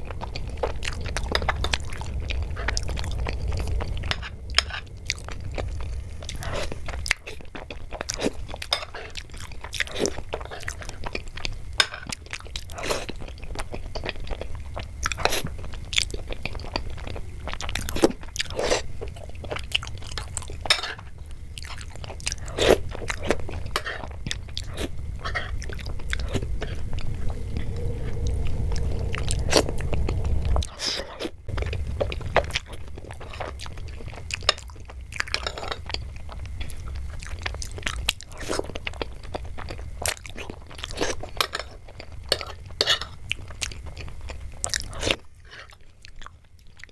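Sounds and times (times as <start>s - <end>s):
wet chewing and smacking: 0.0s - 46.9s.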